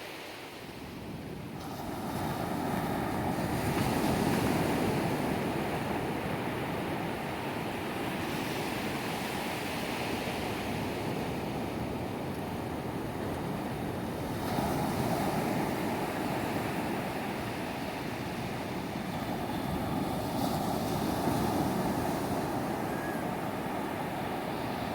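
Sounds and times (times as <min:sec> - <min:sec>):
ocean surf on beach: 0:00.0 - 0:24.9.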